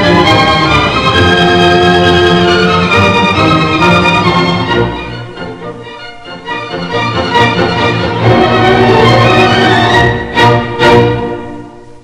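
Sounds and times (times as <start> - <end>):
orchestral music with strings: 0.0 - 12.0.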